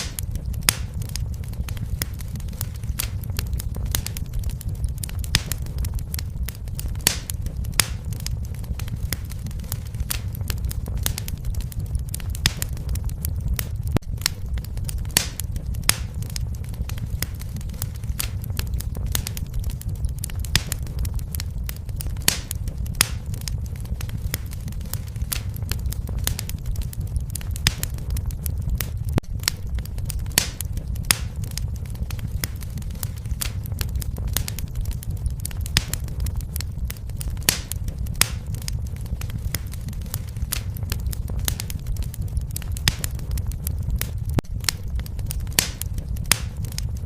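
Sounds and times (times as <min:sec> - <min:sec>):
fire crackling and popping: 0:00.0 - 0:47.0
low rumble of flame: 0:00.0 - 0:47.0.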